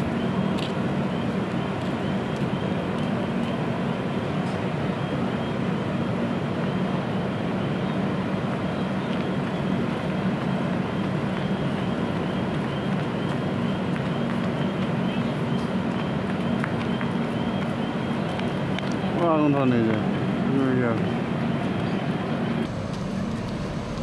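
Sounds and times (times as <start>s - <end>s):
train mechanical hum: 0.0s - 24.0s.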